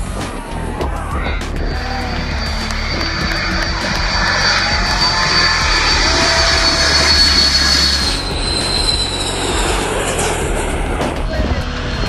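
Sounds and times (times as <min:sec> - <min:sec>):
jet engines rushing and whining: 0:00.0 - 0:12.0.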